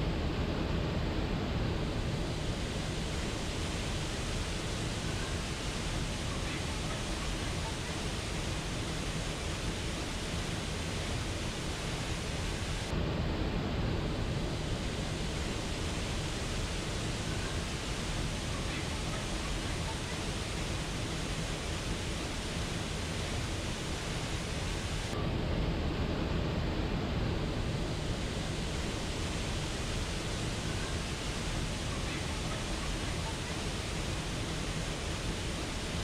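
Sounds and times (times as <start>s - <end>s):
waterfall roaring: 1.8s - 12.9s, 14.1s - 25.2s, 27.0s - 36.0s.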